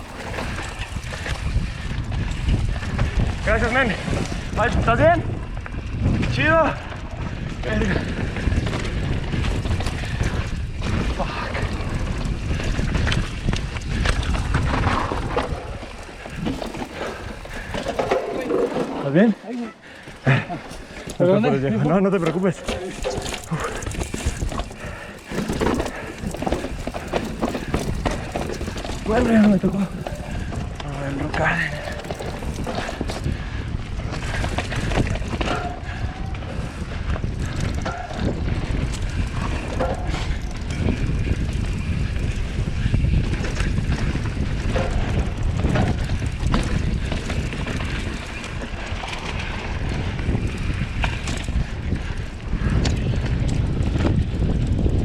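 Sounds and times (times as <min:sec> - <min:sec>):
bike tyres and frame clattering: 0:00.0 - 0:55.0
wind rumbling on microphone: 0:00.0 - 0:55.0.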